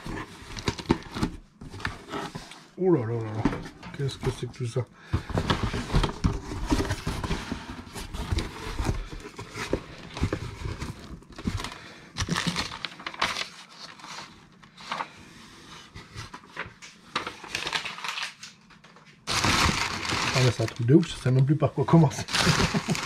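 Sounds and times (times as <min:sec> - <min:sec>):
cardboard rustling and crinkling: 0:00.0 - 0:23.0.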